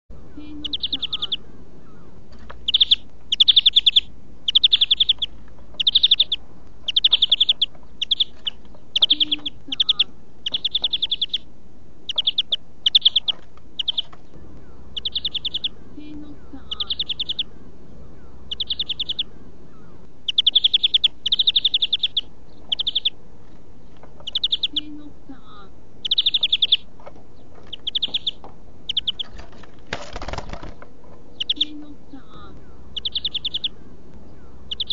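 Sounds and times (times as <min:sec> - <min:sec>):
finch singing rapid trills: 0:00.2 - 0:23.2, 0:23.8 - 0:25.1, 0:26.0 - 0:34.9.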